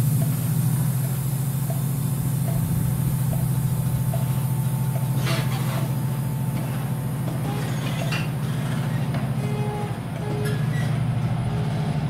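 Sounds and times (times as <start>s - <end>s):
diesel train engine idling: 0.0s - 12.0s.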